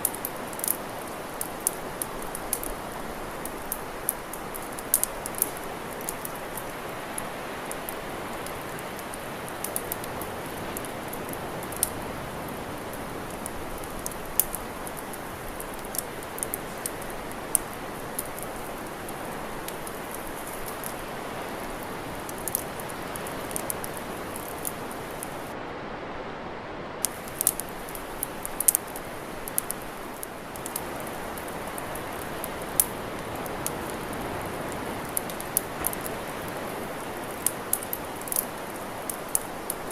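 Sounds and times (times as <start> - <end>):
campfire crackling and popping: 0.0 - 25.5, 27.0 - 39.9.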